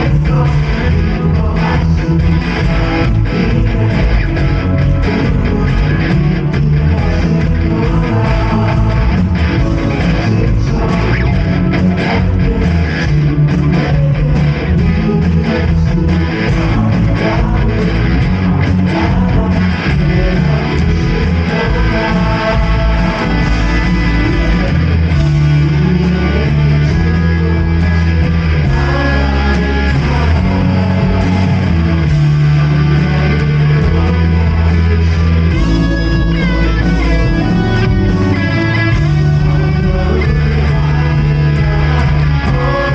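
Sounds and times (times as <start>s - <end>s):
bass guitar: 0.0s - 42.9s
drums: 0.0s - 42.9s
electric guitar: 0.0s - 42.9s.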